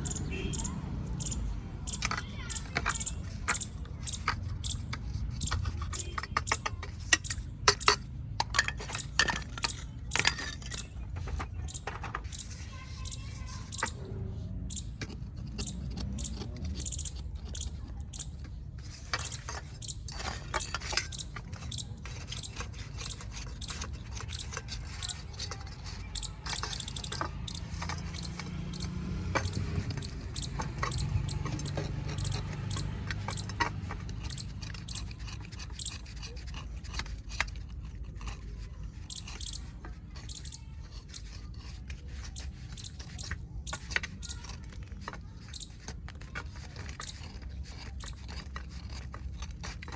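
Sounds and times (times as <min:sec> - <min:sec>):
clay cup pieces crunching: 0:01.0 - 0:13.9, 0:14.5 - 0:49.9.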